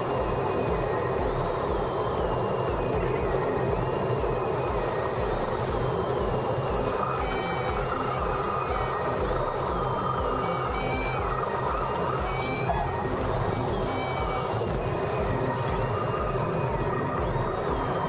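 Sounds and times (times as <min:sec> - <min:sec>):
airflow noise: 0:00.0 - 0:18.0
faint high gliding tone: 0:00.0 - 0:18.0
plane engine and propeller running: 0:00.0 - 0:18.0.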